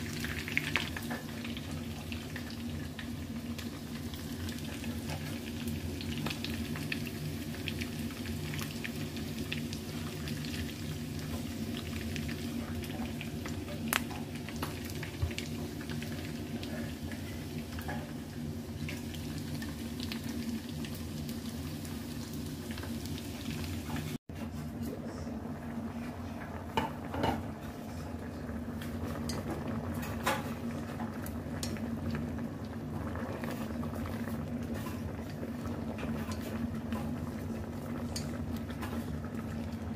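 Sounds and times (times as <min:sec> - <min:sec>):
chicken frying in oil: 0:00.0 - 0:24.2, 0:26.2 - 0:39.9
pot simmering: 0:00.0 - 0:39.9.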